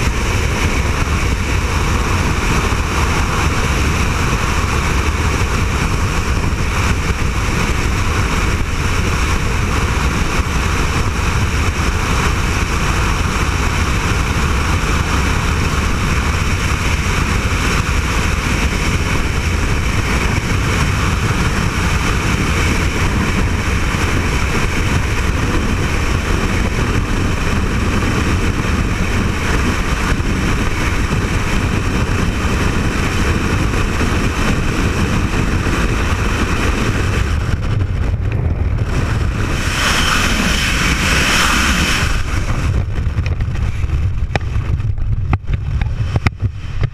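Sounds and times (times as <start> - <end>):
freefall wind rushing: 0.0 - 46.9.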